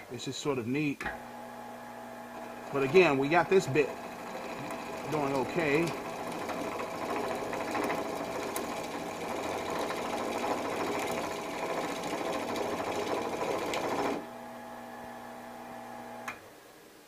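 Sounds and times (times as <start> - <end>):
lathe motor hum: 1.1 - 16.5.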